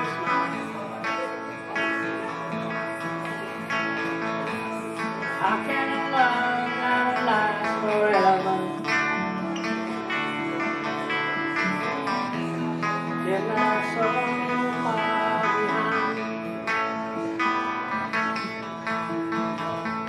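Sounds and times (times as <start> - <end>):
acoustic guitar: 0.0 - 20.0.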